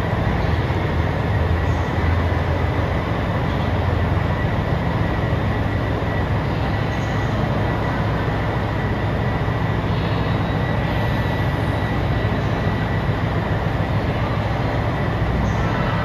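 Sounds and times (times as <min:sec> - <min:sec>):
diesel railcar engines droning: 0:00.0 - 0:16.0
thin steady whine: 0:00.0 - 0:16.0.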